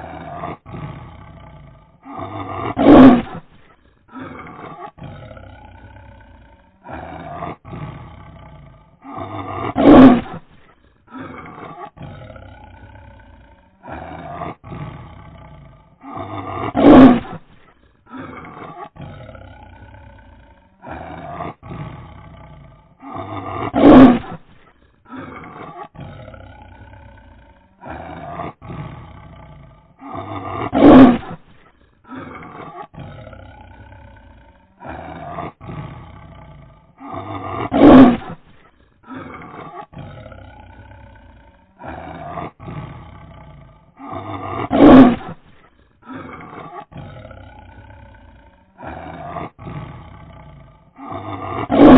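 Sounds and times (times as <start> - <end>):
tiger roaring: 0.0 - 51.9.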